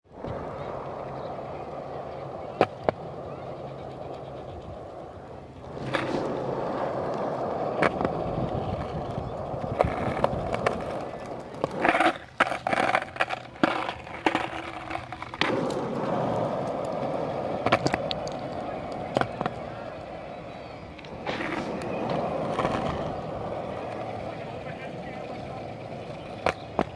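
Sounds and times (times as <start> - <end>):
skateboard wheels rolling: 0.0 - 26.9
skateboard clacks: 0.1 - 26.9.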